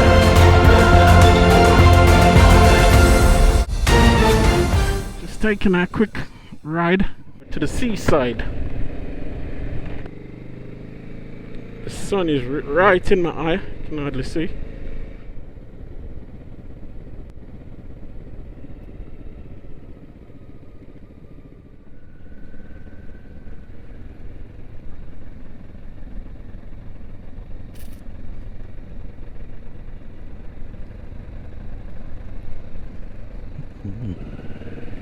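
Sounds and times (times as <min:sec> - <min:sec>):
motorcycle engine: 0:00.0 - 0:06.6, 0:08.2 - 0:35.0.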